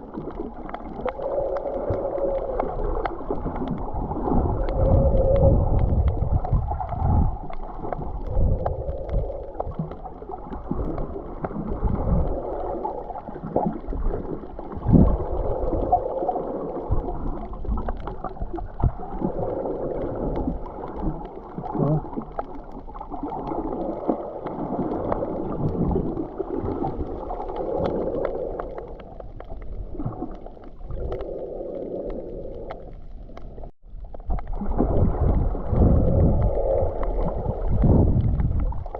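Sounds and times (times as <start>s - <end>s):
low rumble: 0.0s - 20.7s, 25.5s - 38.9s
muffled gurgling water: 0.0s - 38.9s.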